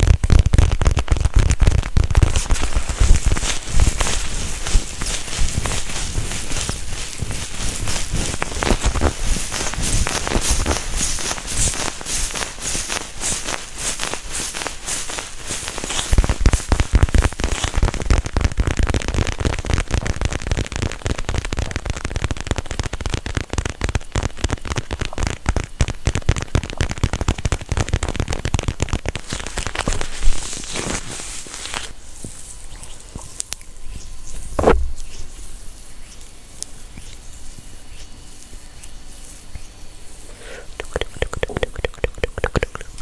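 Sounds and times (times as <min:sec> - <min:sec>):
dense crackling: 0:00.0 - 0:31.9, 0:40.2 - 0:43.0
fast tapping on microphone: 0:00.0 - 0:31.9, 0:40.3 - 0:43.0.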